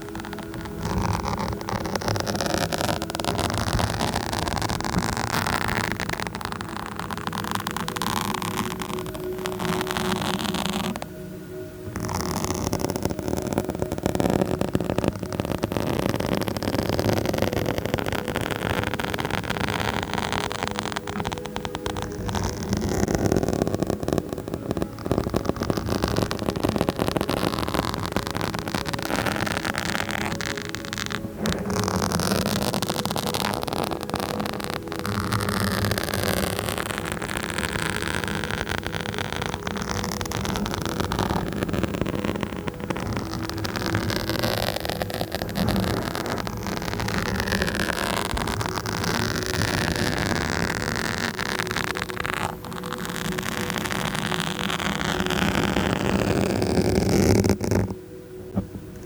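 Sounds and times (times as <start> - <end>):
fingers scratching on a microphone: 0.0 - 59.0.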